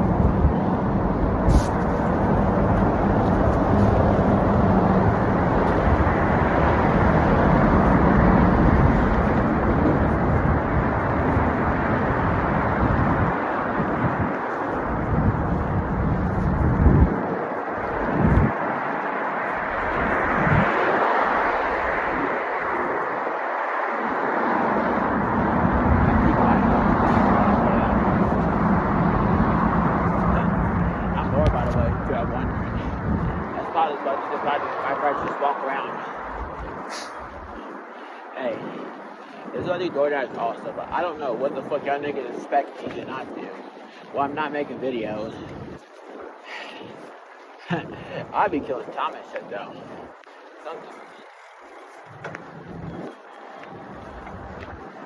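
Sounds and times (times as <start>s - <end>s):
road traffic noise: 0.0s - 55.0s
vehicle engine and tyres rushing: 0.0s - 55.0s
wind buffeting microphone: 0.0s - 55.0s.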